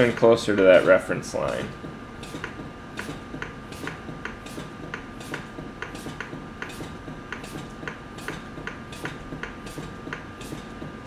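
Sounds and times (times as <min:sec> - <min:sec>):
pump clicking rhythmically: 0:00.0 - 0:11.0.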